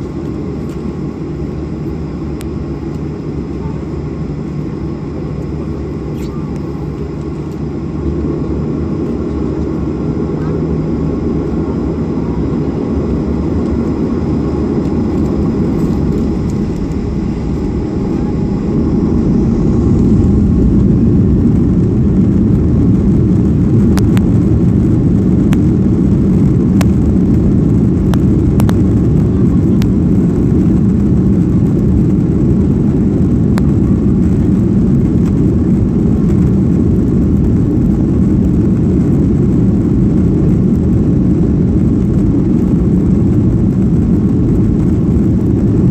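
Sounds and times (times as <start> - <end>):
jet engines roaring: 0.0 - 45.9.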